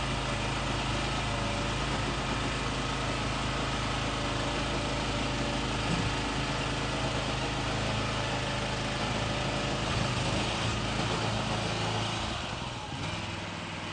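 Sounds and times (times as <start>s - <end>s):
truck engine idling: 0.0s - 13.9s.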